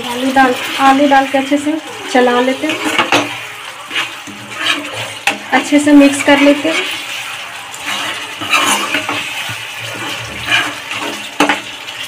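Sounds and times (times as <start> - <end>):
spatula stirring thick gravy: 0.0 - 12.0.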